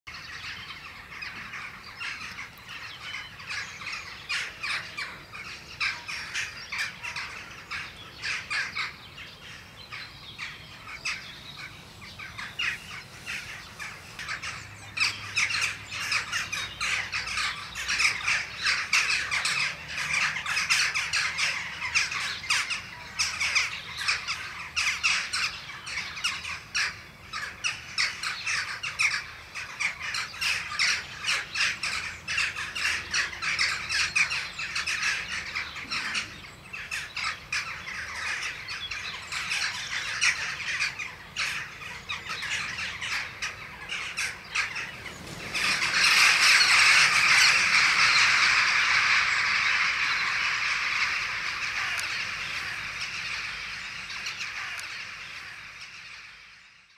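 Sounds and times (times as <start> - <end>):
jackdaws calling: 0.1 - 56.9.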